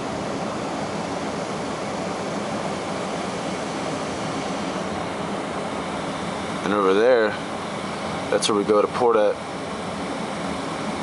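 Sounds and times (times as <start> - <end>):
ship machinery hum and rushing: 0.0 - 11.0.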